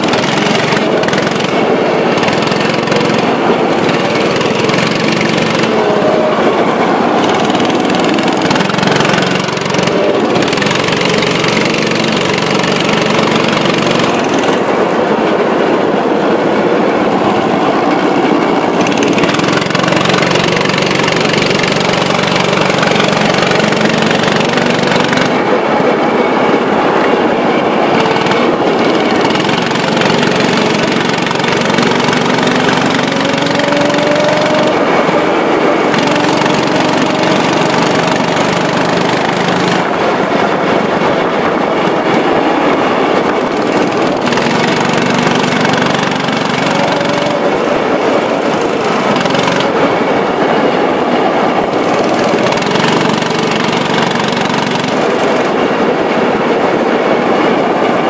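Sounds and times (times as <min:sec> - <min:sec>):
go-kart engines droning: 0:00.0 - 0:58.0.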